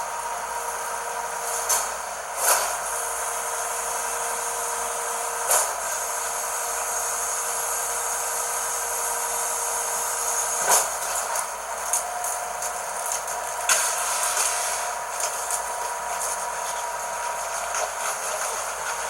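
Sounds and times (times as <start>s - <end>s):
garbage truck whine: 0.0s - 19.0s.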